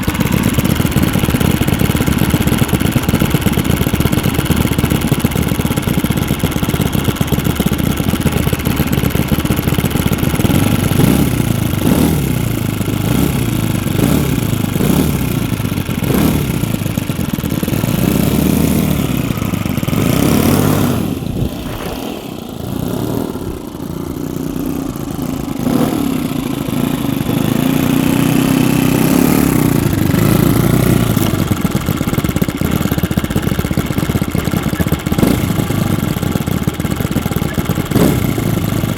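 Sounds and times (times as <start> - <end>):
model engines revving: 0.0 - 38.9.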